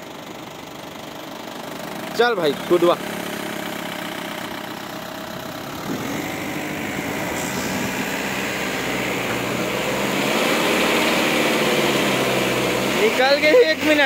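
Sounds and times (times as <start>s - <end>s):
diesel engine revving under load: 0.0s - 14.0s.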